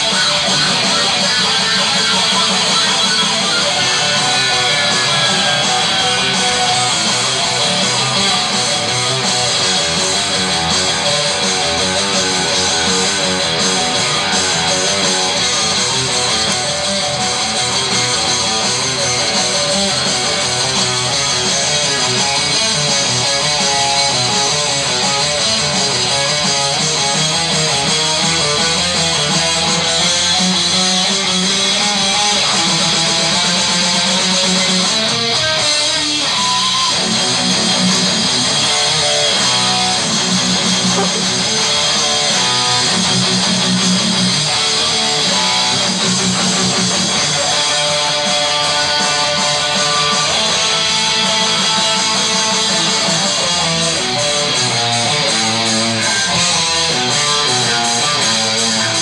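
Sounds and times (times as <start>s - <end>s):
electric guitar playing: 0.0s - 59.0s.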